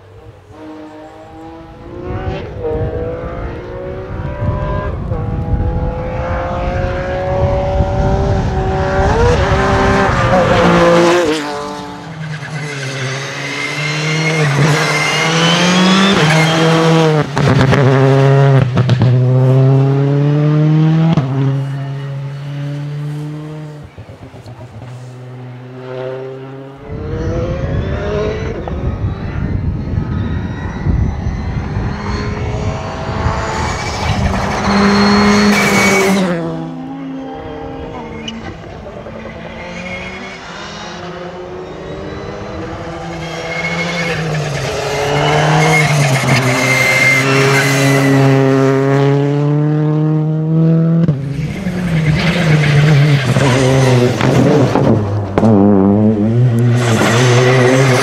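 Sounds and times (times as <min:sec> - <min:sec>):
distant car revving: 0:00.0 - 0:58.0
rally car engine revving: 0:00.4 - 0:58.0.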